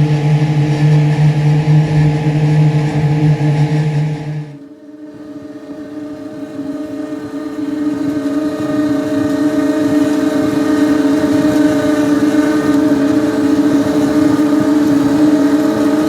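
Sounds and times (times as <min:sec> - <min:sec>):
engine droning hum: 0:00.0 - 0:16.0.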